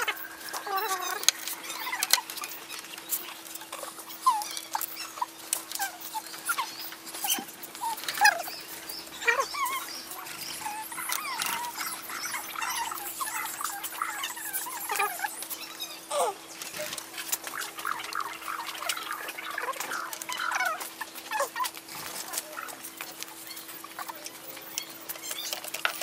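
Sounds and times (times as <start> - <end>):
faint steady hum: 0.0 - 26.0
plastic rubbing squeaks: 0.0 - 26.0.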